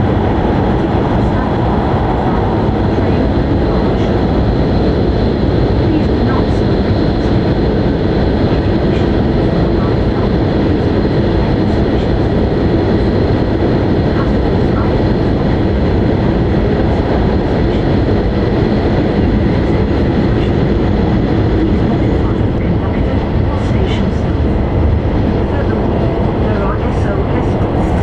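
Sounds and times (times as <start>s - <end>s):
train cabin running noise: 0.0s - 28.0s.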